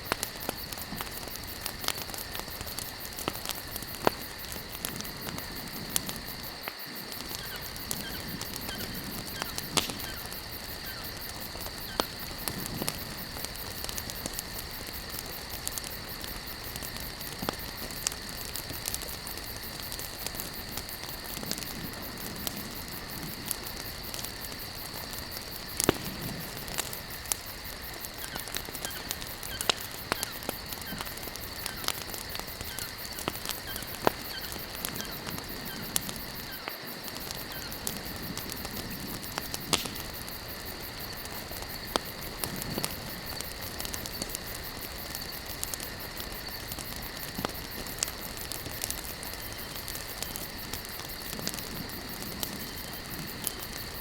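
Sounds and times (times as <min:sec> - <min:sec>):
campfire logs crackling: 0:00.0 - 0:54.0
insect chirring: 0:00.0 - 0:54.0.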